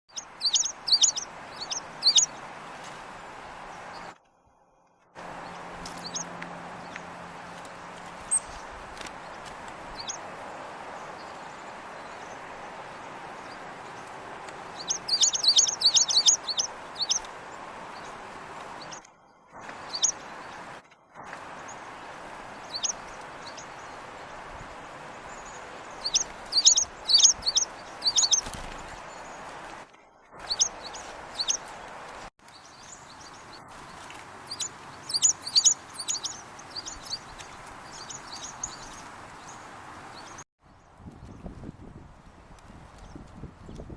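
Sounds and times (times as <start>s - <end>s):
songbirds chirping: 0.1s - 41.6s.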